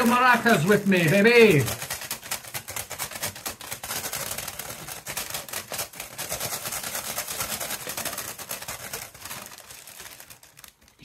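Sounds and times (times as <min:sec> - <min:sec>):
crisps rattling in shaken bag: 0:00.0 - 0:11.0.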